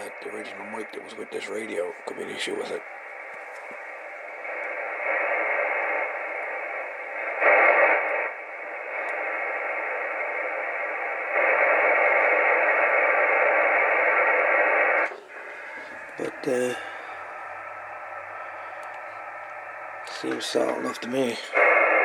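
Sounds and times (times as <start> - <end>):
radio static and hiss: 0.0 - 22.0.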